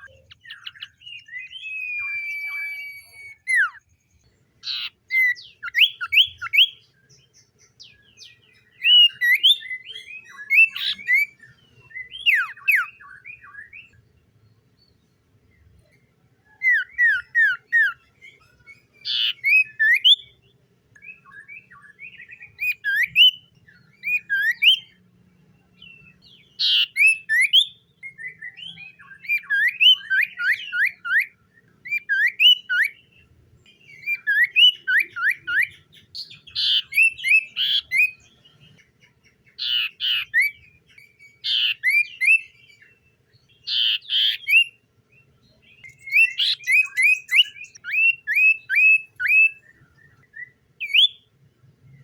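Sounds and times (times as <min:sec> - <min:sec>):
bird singing whistled phrases: 0:00.0 - 0:04.0, 0:04.6 - 0:06.9, 0:07.8 - 0:14.0, 0:16.4 - 0:20.4, 0:21.0 - 0:25.0, 0:25.9 - 0:33.0, 0:33.8 - 0:38.3, 0:39.6 - 0:43.0, 0:43.7 - 0:44.8, 0:45.5 - 0:51.3.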